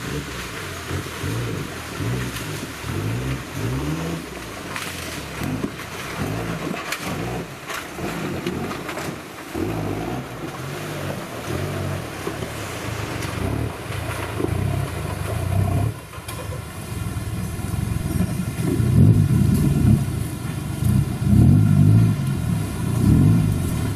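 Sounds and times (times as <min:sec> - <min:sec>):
off-road engine revving: 0:00.0 - 0:23.9
water splashing: 0:00.0 - 0:23.9.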